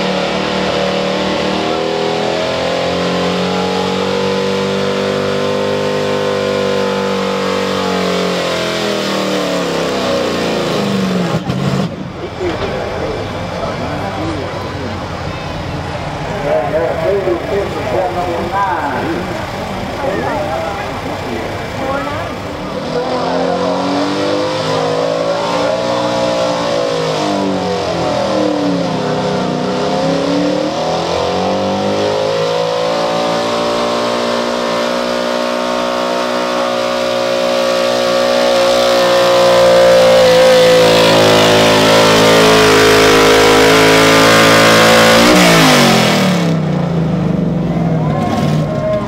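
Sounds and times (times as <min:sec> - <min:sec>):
pickup engine at full throttle: 0:00.0 - 0:49.0.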